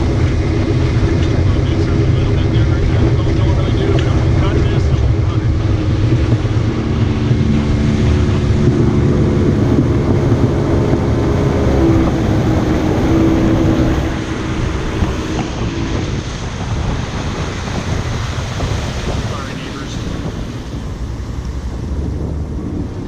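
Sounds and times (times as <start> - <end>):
outboard motor running: 0.0 - 23.0
water rushing past hull: 0.0 - 23.0
wind buffeting microphone: 0.0 - 23.0.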